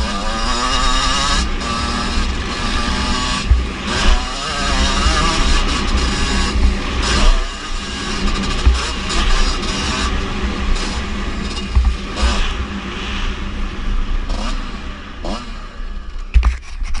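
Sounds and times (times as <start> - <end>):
motocross bike engine revving: 0.0 - 16.2.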